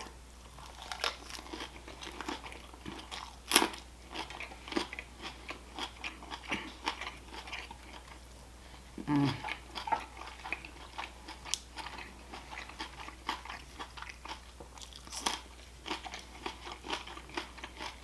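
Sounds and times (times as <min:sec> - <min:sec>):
crisp lettuce crunching: 0:00.0 - 0:08.2, 0:09.1 - 0:18.0.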